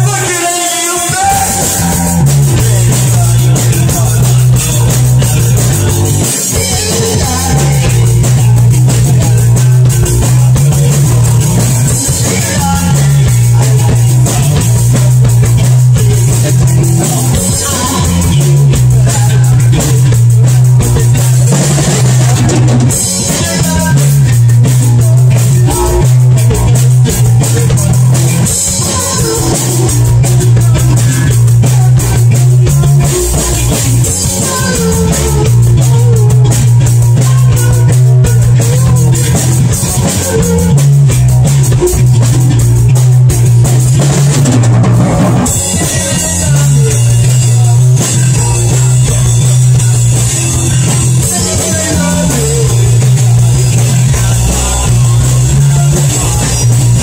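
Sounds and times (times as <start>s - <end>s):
drum kit with cymbals: 0.0s - 57.0s
electric bass guitar riff: 0.0s - 57.0s.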